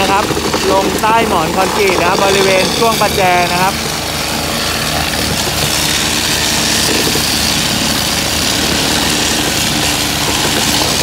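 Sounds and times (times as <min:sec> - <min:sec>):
ballast tampers vibrating: 0:00.0 - 0:11.0
small engine running: 0:00.0 - 0:11.0.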